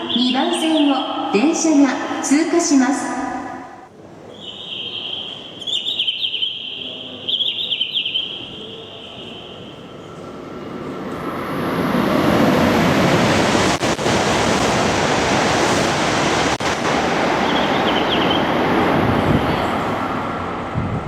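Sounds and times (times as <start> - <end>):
train passing at high speed: 0.0 - 21.0.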